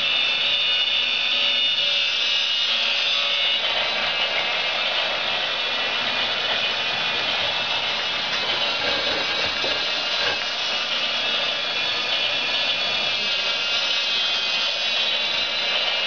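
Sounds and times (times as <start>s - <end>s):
toy train motor whirring: 0.0s - 16.0s.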